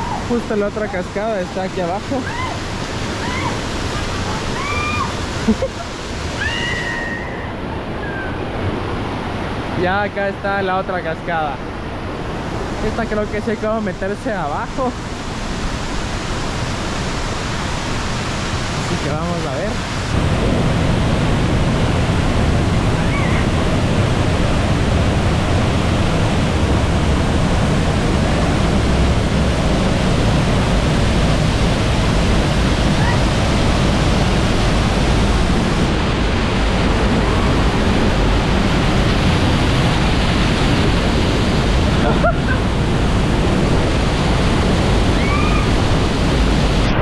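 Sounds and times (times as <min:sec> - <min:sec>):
waterfall rushing: 0:00.0 - 0:47.0.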